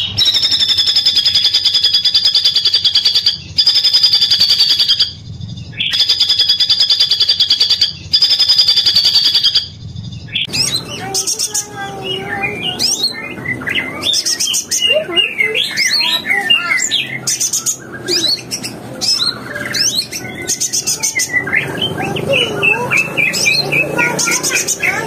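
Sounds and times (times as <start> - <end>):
bird whistles and chirps: 0.0 - 25.0.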